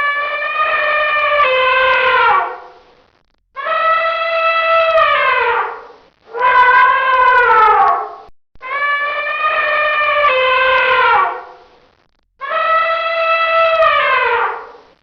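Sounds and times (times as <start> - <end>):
elephant trumpeting: 0.0 - 2.7, 3.6 - 11.6, 12.4 - 14.8.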